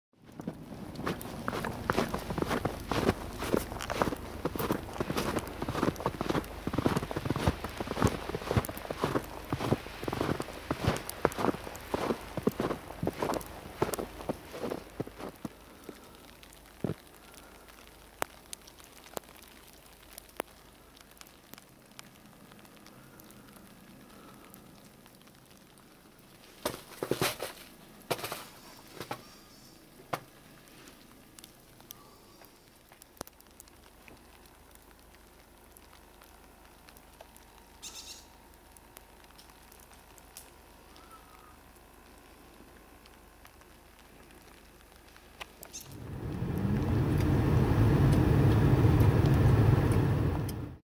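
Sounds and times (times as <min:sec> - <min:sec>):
faint clicks and crackles: 0:00.2 - 0:50.7.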